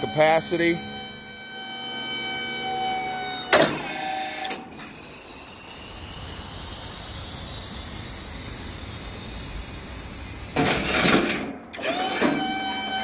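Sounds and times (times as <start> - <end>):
hydraulic hiss with high whine: 0.0 - 13.0.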